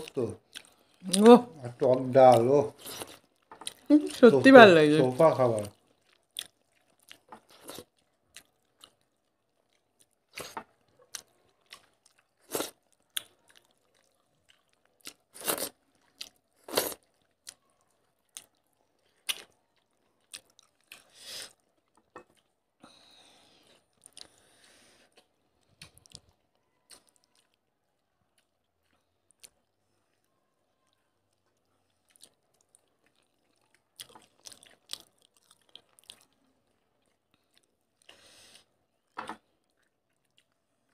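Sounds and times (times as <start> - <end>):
people chewing wet smacks: 0.0 - 22.8, 23.5 - 40.9.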